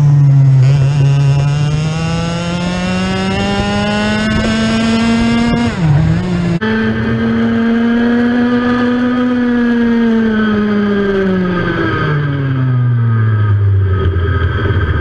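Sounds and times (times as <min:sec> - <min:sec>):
kart engine at high revs: 0:00.0 - 0:15.0.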